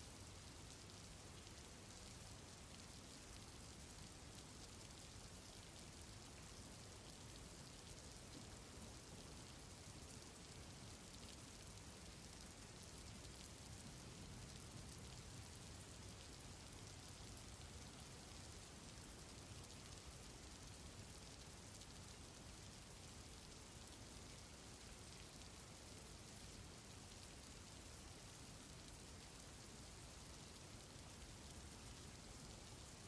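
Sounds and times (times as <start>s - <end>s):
faint steady rain: 0.0s - 33.0s.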